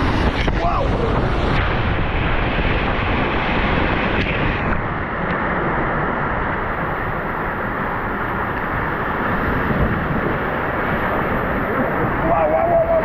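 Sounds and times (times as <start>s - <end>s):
rushing water: 0.0s - 13.0s
wind buffeting microphone: 0.0s - 13.0s.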